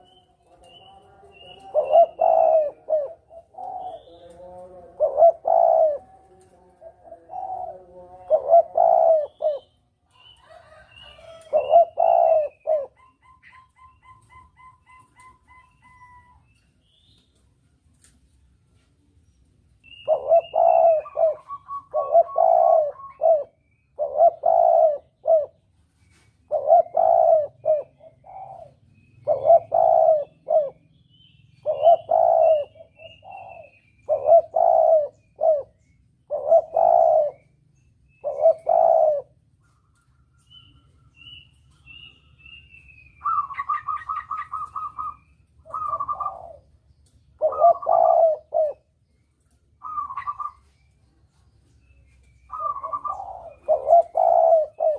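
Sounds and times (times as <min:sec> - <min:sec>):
dove cooing: 0:00.0 - 0:16.7, 0:19.8 - 0:25.8, 0:26.4 - 0:31.0, 0:31.6 - 0:37.5, 0:38.1 - 0:49.0, 0:49.8 - 0:50.7, 0:52.5 - 0:54.9
small birds chirping: 0:00.0 - 0:54.9.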